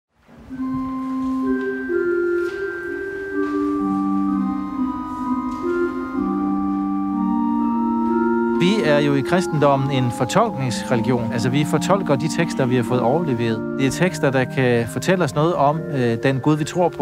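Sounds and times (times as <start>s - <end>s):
slow instrumental music with held notes: 0.2s - 17.0s.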